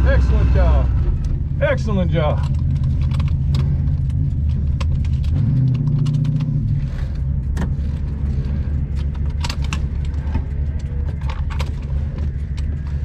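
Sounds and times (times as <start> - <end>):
car engine low drone: 0.0 - 13.0
light clicks and rattles: 2.3 - 13.0.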